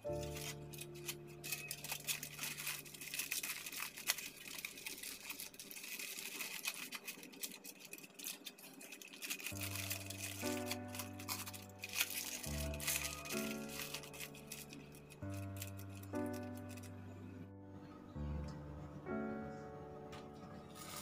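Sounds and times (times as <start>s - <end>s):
aluminium foil crinkling: 0.0s - 17.3s.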